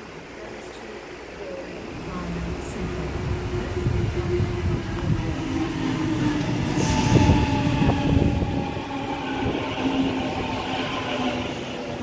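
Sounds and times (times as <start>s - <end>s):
electric train running past: 1.8s - 12.0s.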